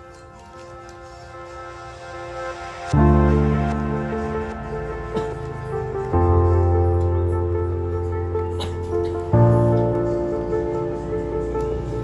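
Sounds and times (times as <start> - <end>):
calm instrumental music: 0.0 - 12.0.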